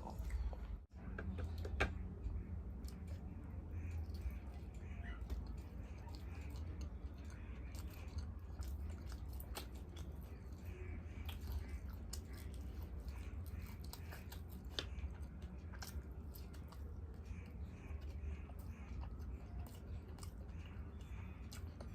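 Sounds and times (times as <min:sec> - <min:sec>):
steady low hum: 0:00.0 - 0:21.9
wet chewing: 0:00.0 - 0:21.9.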